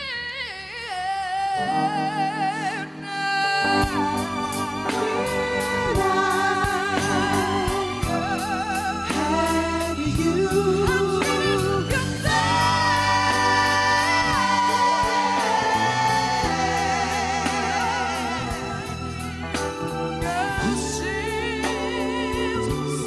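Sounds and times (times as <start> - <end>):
boy singing with vibrato: 0.0 - 19.0
band with keyboards and drums: 0.0 - 23.0
steady cymbal beat: 3.8 - 23.0.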